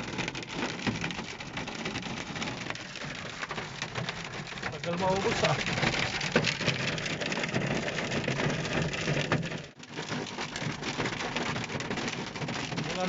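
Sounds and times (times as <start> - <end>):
hail and rain pattering: 0.0 - 13.0.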